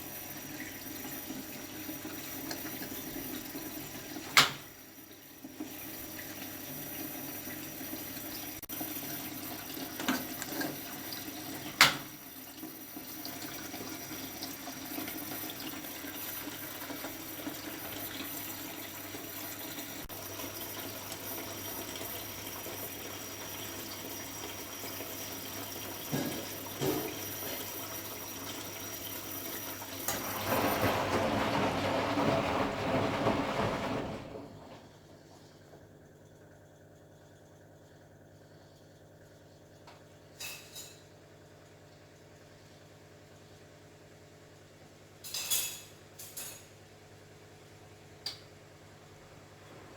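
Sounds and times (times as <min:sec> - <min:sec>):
water rushing into washing machine: 0:00.0 - 0:36.6, 0:41.7 - 0:49.9.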